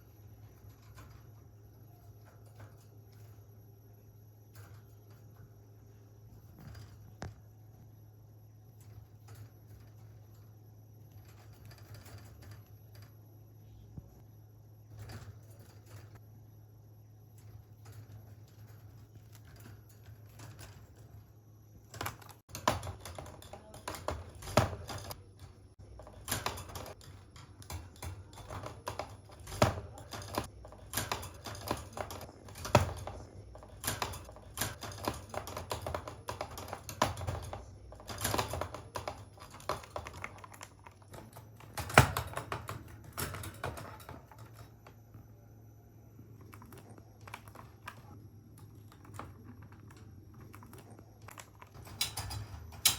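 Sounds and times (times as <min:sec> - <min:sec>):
bird clicking and tapping in cage: 0:00.1 - 0:03.4, 0:08.7 - 0:13.2, 0:14.9 - 0:16.2, 0:17.3 - 0:45.0, 0:46.4 - 0:52.9.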